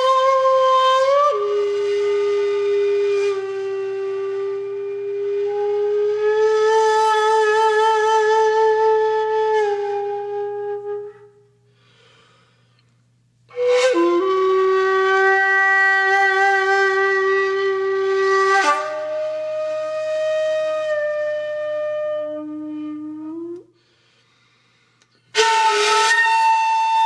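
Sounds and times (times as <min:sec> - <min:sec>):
flute-like wind instrument music: 0:00.0 - 0:11.7, 0:13.5 - 0:23.7, 0:25.3 - 0:27.0.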